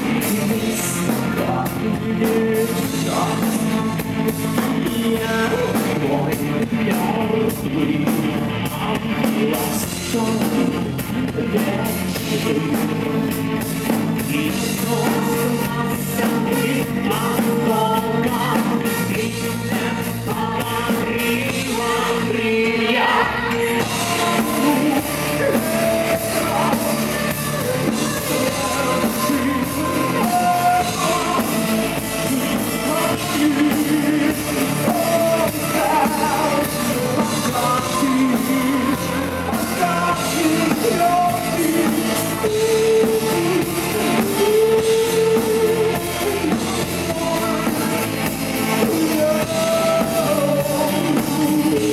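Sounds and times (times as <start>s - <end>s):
live rock band playing: 0.0s - 51.9s
person singing: 0.0s - 51.9s.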